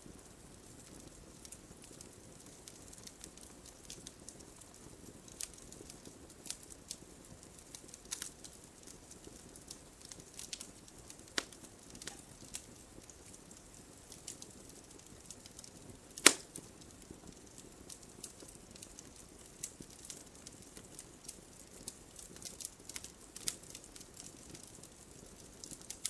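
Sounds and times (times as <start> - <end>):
campfire crackling: 0.0 - 26.0
soft steady hiss: 0.0 - 26.0.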